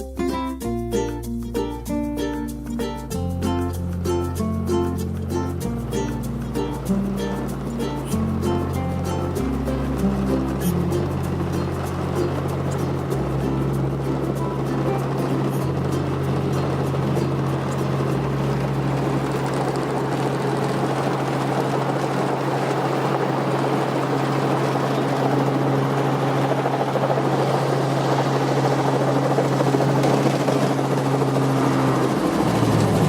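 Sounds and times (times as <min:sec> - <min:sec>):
helicopter rotor and engine drone: 0:02.5 - 0:33.0.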